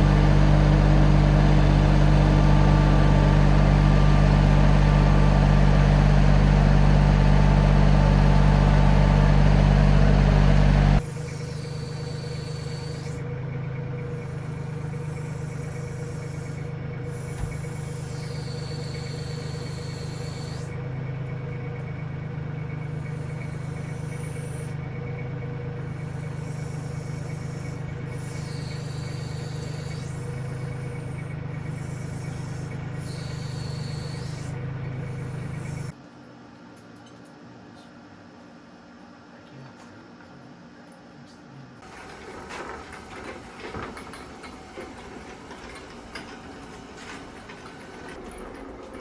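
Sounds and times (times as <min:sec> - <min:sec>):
backhoe engine running: 0:00.0 - 0:36.0, 0:41.8 - 0:49.0
steady engine hum: 0:00.0 - 0:36.0, 0:41.8 - 0:49.0.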